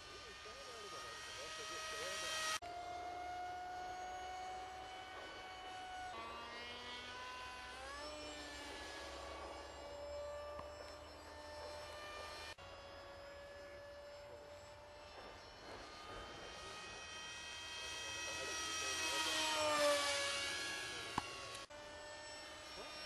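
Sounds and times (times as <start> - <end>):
model jet motor whining: 0.0 - 23.0.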